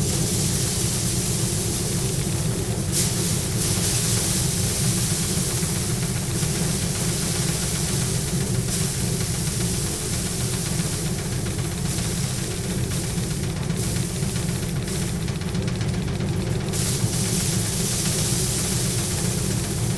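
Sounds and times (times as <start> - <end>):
grain being beaten off straw: 0.0 - 19.9
thresher drum humming: 0.0 - 19.9.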